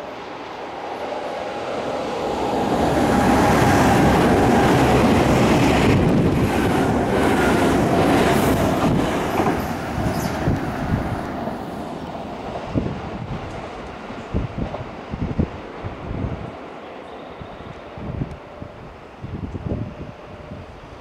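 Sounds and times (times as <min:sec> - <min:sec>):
train wheels rumbling: 0:00.0 - 0:16.8.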